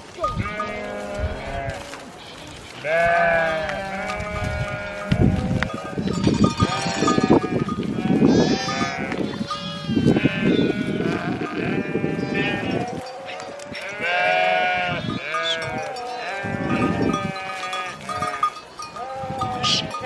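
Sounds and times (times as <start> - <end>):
sheep bleating: 0.2 - 20.0.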